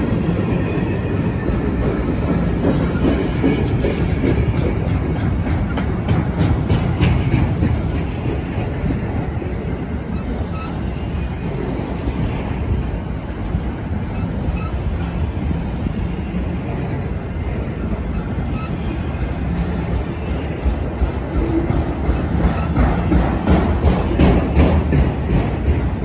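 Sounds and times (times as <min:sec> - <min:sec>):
steel wheels on rails: 0:00.0 - 0:26.0.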